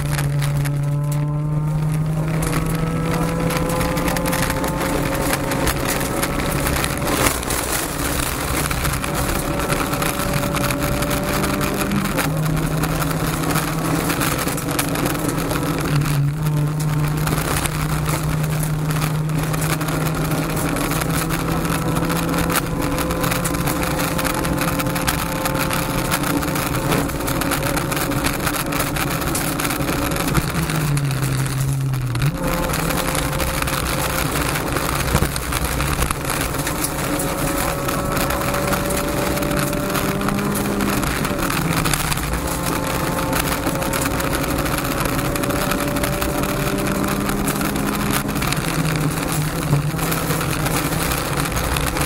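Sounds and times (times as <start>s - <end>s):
car engine revving high: 0.0s - 52.0s
gravel road noise: 0.0s - 52.0s.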